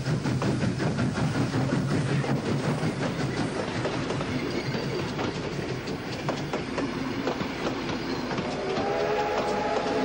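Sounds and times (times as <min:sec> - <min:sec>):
train wheels clattering over rails: 0:00.0 - 0:10.0.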